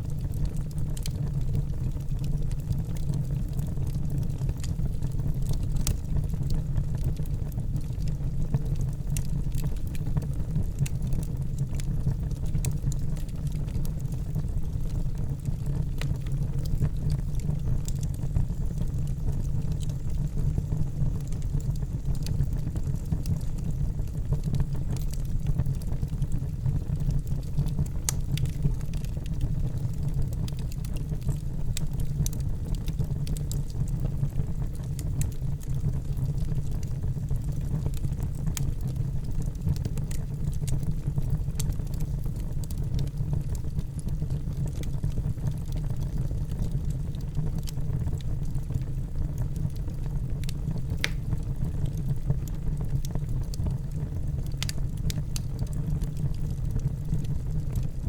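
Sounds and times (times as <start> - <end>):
burning logs crackling and popping: 0.0 - 58.0
low rumble of flames: 0.0 - 58.0.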